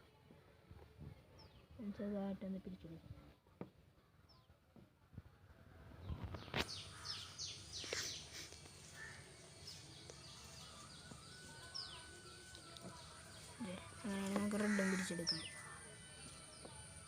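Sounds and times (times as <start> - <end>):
small birds chirping: 1.0 - 3.0, 3.6 - 4.8, 5.9 - 17.0.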